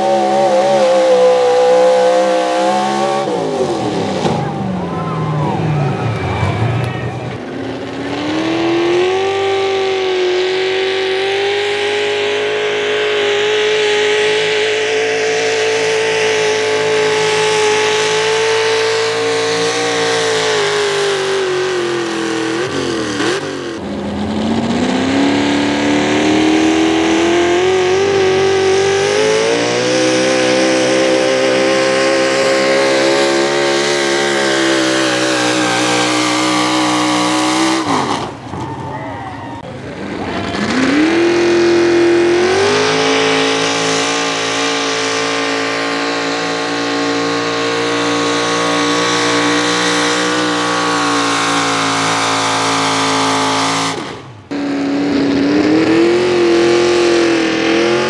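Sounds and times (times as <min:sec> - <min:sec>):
truck engines revving under load: 0:00.0 - 0:58.0.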